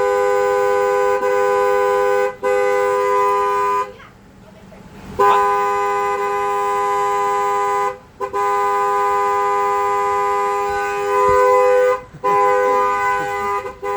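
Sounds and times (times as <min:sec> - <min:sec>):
car horn blasts: 0:00.0 - 0:04.0, 0:05.2 - 0:13.9.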